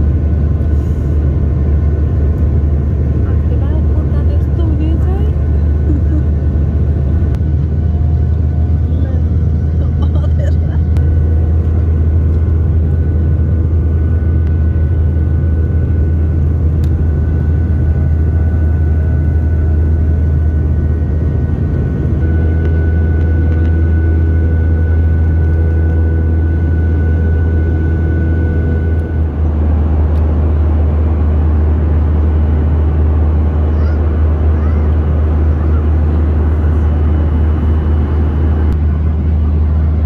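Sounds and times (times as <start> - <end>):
jet engine cabin drone: 0.0 - 40.0
thin steady whine: 0.0 - 40.0.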